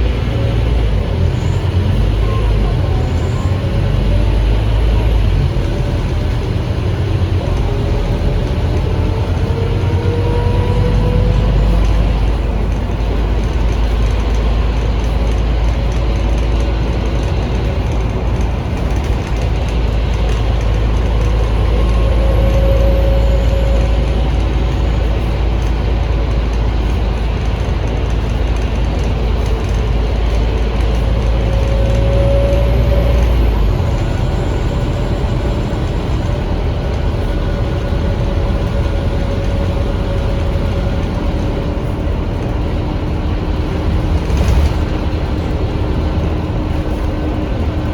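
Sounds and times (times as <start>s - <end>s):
bus diesel engine rumble: 0.0s - 47.9s.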